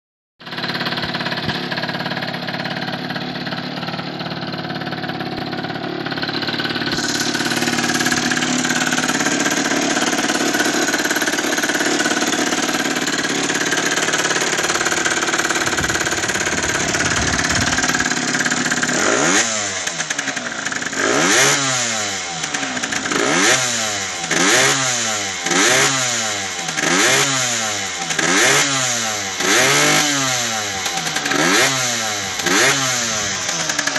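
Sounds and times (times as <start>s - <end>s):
motorcycle engine idling: 0.4s - 33.9s
motorcycle engine revving: 0.4s - 33.9s.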